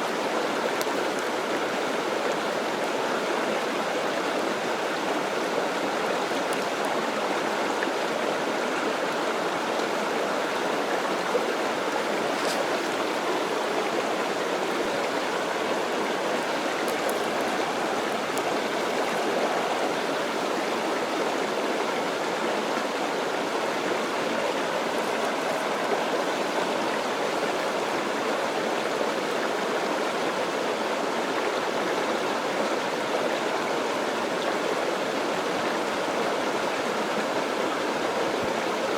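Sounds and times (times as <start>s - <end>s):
mountain stream over rocks: 0.0s - 38.9s.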